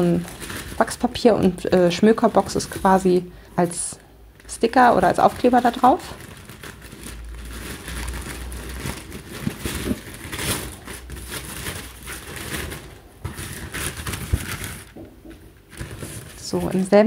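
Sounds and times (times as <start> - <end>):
wax paper rustling and crinkling: 0.0 - 17.0.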